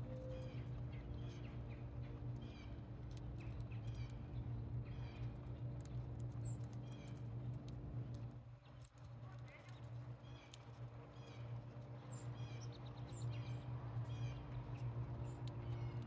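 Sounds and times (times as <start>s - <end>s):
steady low hum: 0.0s - 16.0s
small birds chirping: 0.1s - 16.0s.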